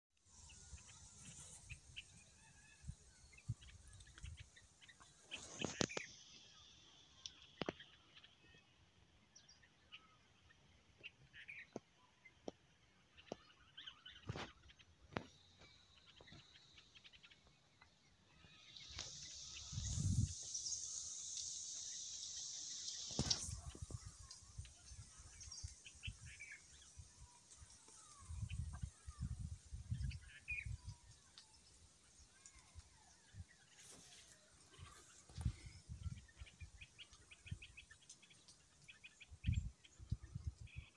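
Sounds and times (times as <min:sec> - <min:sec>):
steady high hiss: 0:00.2 - 0:08.5, 0:15.2 - 0:40.0
small birds chirping: 0:00.2 - 0:40.9.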